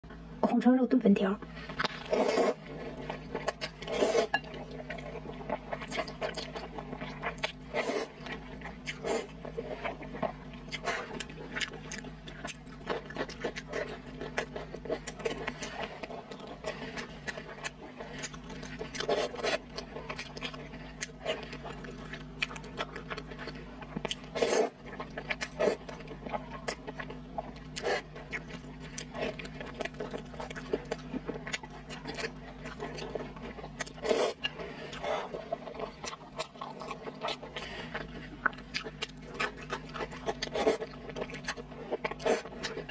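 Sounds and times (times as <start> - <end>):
wet chewing: 1.4 - 42.9.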